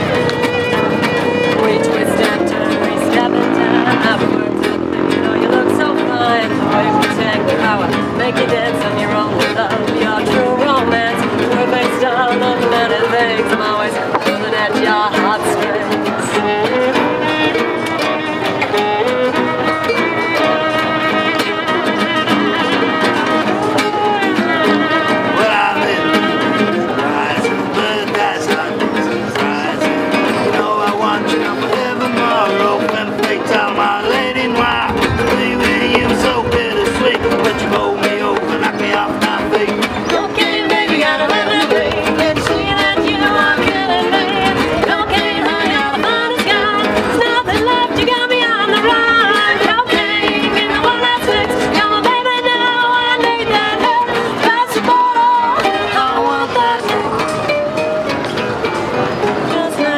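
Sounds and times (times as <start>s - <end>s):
cajon beats: 0.0s - 59.9s
fiddle: 0.0s - 59.9s
small plucked string instrument: 0.0s - 59.9s
strummed acoustic guitars: 0.0s - 59.9s.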